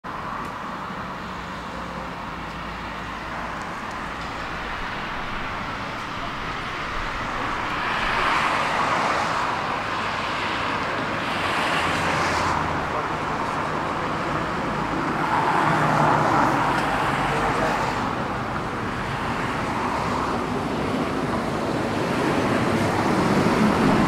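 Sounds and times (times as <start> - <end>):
street traffic passing: 0.0 - 24.0.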